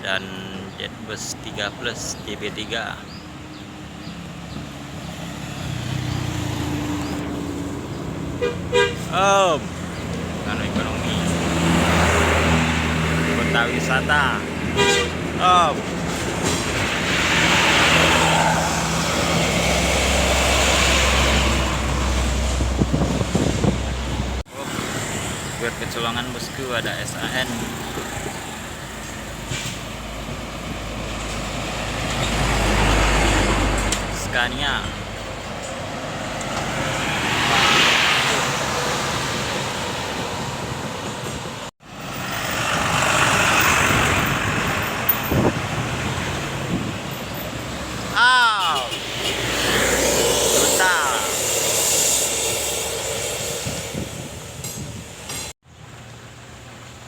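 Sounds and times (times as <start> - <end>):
buses passing by: 0.0 - 57.0
tyre and road noise: 0.0 - 57.0
diesel engine drone: 5.6 - 40.8, 41.4 - 57.0.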